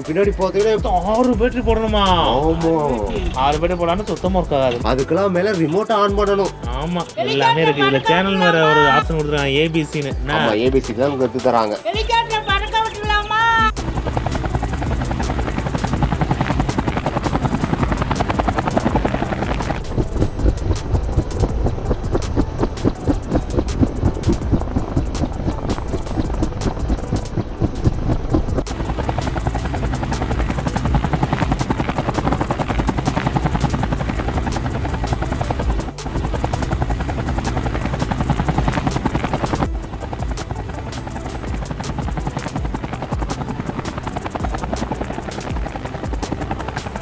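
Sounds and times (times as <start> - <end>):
helicopter rotor blades chopping: 0.0 - 47.0.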